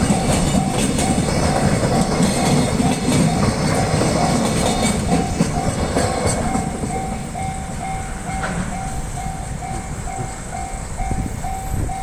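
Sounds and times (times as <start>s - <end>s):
level crossing warning bell: 0.0s - 12.0s
train wagons rumbling: 0.0s - 12.0s.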